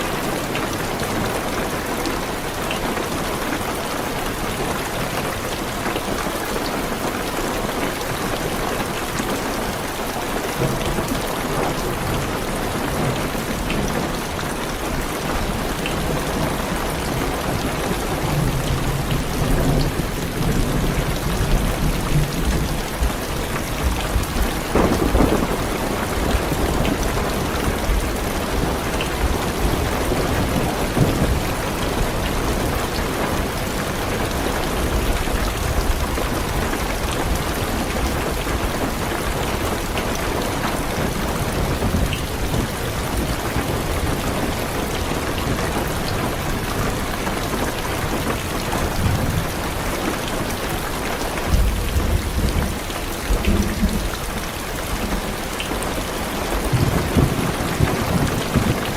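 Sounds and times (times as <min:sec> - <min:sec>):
heavy rain on a car roof: 0:00.0 - 0:58.9.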